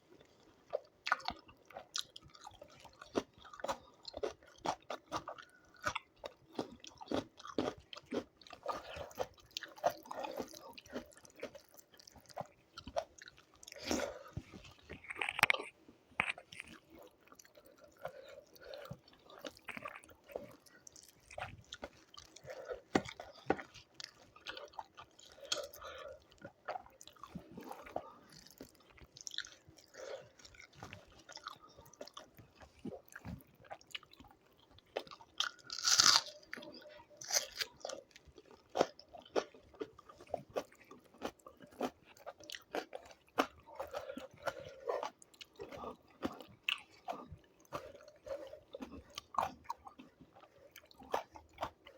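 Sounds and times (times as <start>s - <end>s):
person chewing and crunching: 0.1s - 51.9s.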